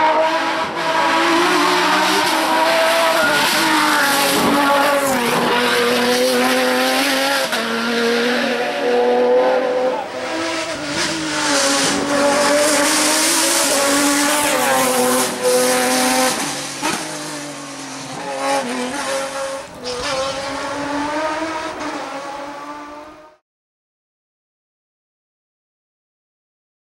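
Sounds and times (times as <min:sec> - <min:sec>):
racing car engine revving: 0:00.0 - 0:23.4.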